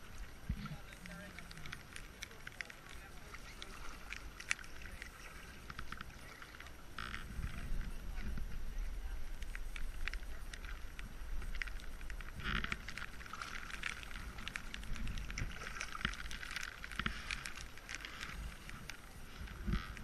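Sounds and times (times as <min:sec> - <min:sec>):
paddle water splashing and dripping: 0:00.0 - 0:20.0
wind rumble on microphone: 0:00.0 - 0:20.0.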